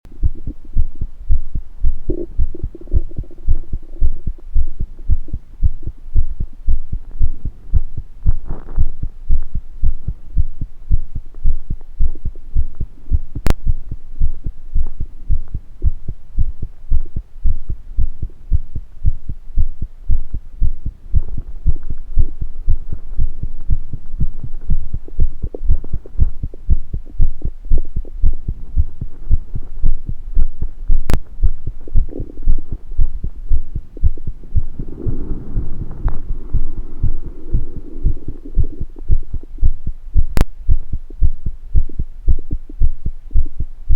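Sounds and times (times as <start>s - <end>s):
stomach rumbling: 0.1s - 19.3s, 20.2s - 43.7s
heartbeat thumping: 0.1s - 43.9s.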